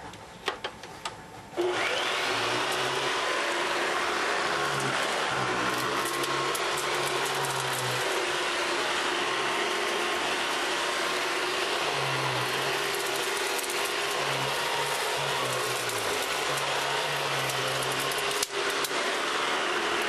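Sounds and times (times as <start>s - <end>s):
upright vacuum cleaner running: 1.6s - 20.0s.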